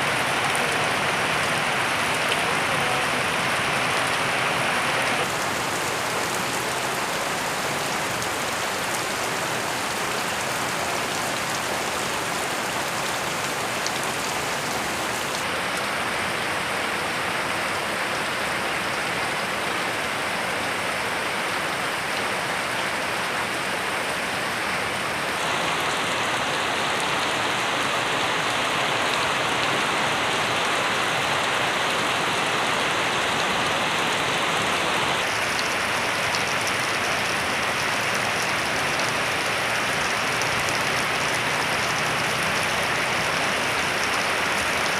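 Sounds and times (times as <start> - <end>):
rain falling: 0.0 - 44.9.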